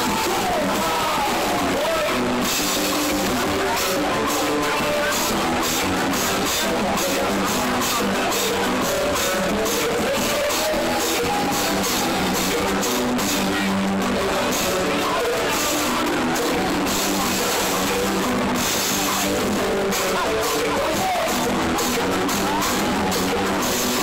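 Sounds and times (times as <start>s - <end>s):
drum kit: 0.0s - 24.0s
electric guitar: 0.0s - 24.0s
person singing: 0.0s - 24.0s.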